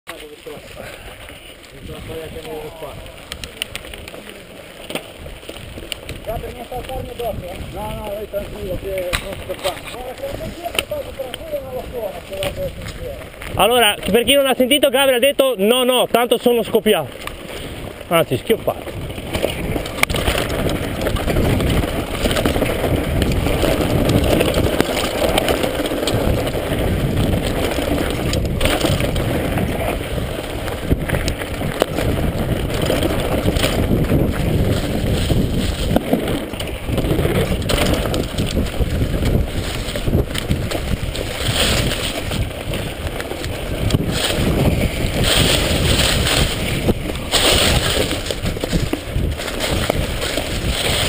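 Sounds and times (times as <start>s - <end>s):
bike rattling over bumps: 0.1s - 51.0s
tyres on dirt and dry leaves: 0.1s - 51.0s
wind rumble: 0.2s - 51.0s.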